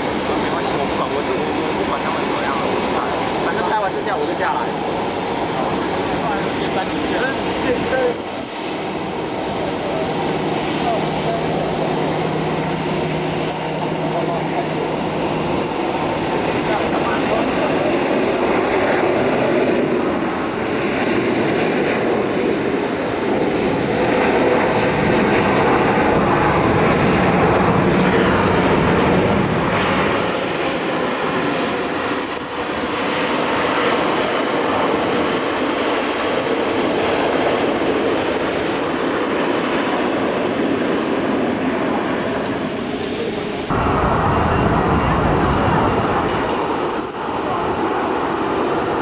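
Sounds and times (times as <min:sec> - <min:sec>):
jet engines rushing: 0:00.0 - 0:49.0.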